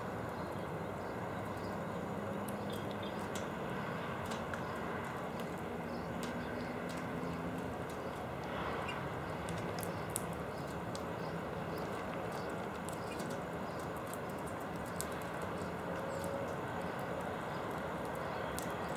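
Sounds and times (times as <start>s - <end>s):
birds pecking at feeder: 2.4s - 18.9s.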